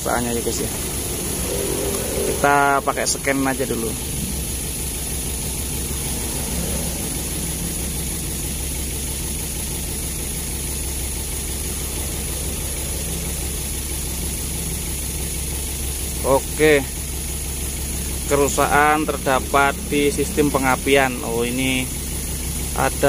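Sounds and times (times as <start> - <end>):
misfiring engine idling: 0.0 - 23.0.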